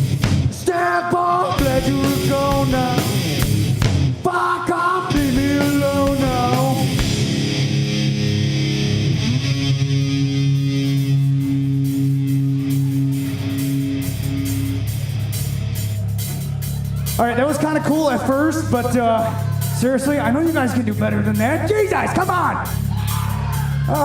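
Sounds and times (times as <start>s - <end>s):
rock band playing: 0.0s - 0.7s, 1.5s - 24.0s
electric guitar bending notes: 1.5s - 4.2s, 5.0s - 24.0s.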